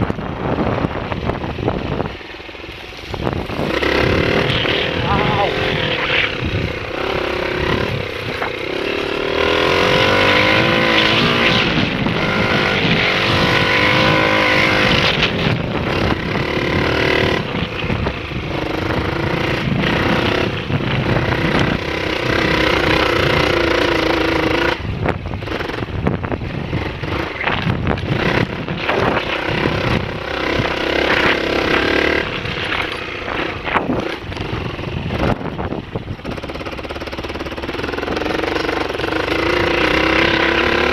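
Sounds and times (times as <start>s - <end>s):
dirt bike engine revving: 0.0s - 40.9s
wind on microphone: 0.0s - 40.9s.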